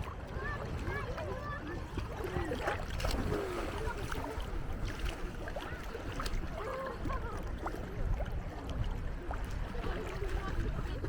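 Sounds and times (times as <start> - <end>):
light splashes: 0.0 - 11.0
small waves washing on shore: 0.0 - 11.0
wind rumbling on microphone: 0.0 - 11.0
faint distant voices: 0.1 - 11.0.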